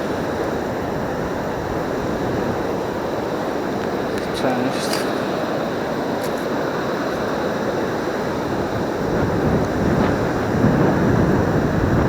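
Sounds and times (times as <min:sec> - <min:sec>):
surf washing: 0:00.0 - 0:12.0
wind rumbling on microphone: 0:00.0 - 0:12.0.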